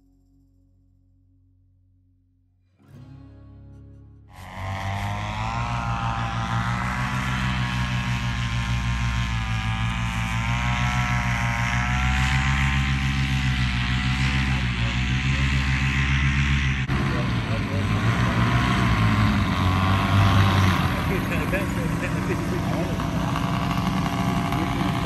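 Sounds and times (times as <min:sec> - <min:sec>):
paramotor engine and propeller: 0:04.3 - 0:25.0.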